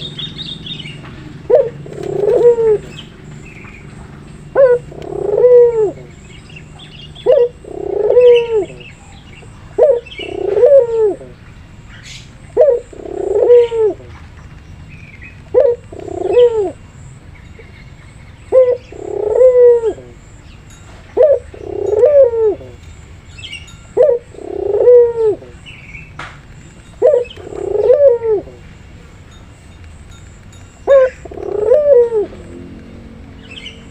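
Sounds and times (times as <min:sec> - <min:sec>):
dove cooing: 0:00.0 - 0:11.4, 0:12.0 - 0:14.2, 0:15.4 - 0:17.7, 0:18.3 - 0:25.9, 0:26.7 - 0:29.2, 0:30.7 - 0:33.9.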